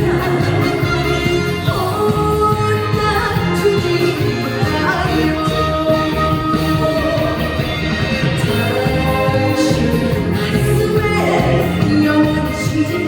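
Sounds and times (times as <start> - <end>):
backing track with bass beat: 0.0 - 13.0
woman singing: 0.0 - 13.0.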